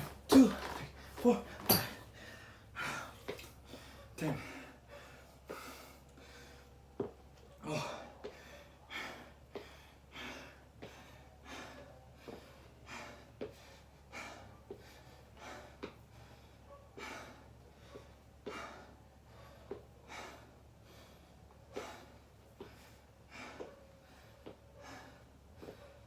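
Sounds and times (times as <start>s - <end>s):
man breathing hard: 0.4s - 26.0s.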